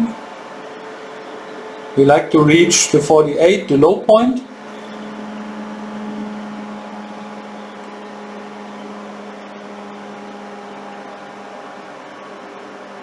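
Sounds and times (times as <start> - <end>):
fan-like hum with low drone: 0.0 - 13.0.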